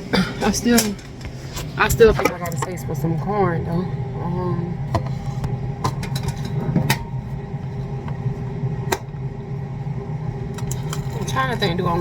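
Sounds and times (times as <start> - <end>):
air fryer fan hum: 0.0 - 12.0.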